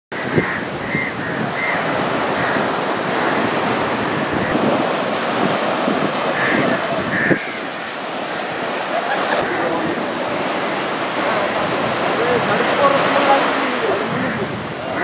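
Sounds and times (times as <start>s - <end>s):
wind on microphone: 0.1s - 15.0s
surf breaking on beach: 0.2s - 15.0s.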